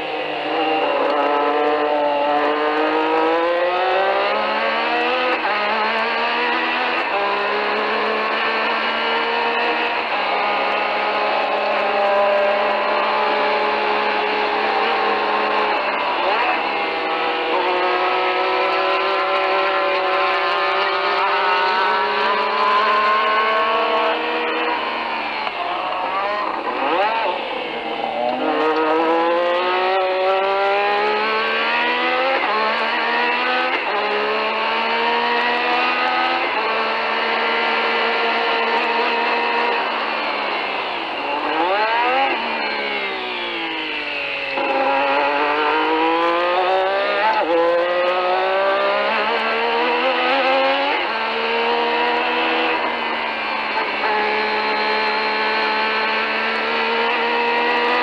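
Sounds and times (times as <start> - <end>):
racing car engine at full throttle: 0.0 - 58.0.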